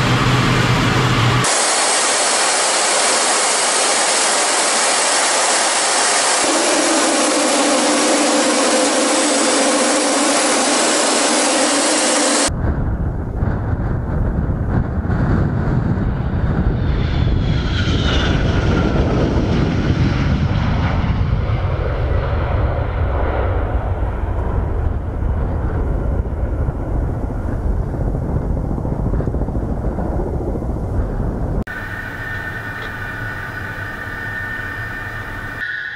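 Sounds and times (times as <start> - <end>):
high jet whine: 0.0 - 35.9
jet engine roar: 0.0 - 35.9.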